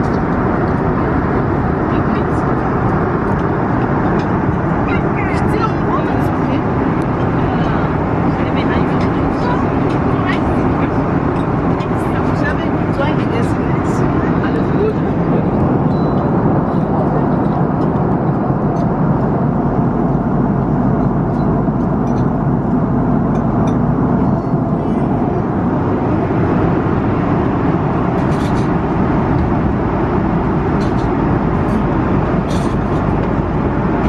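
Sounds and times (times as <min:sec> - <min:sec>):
airplane cabin noise: 0:00.0 - 0:34.0.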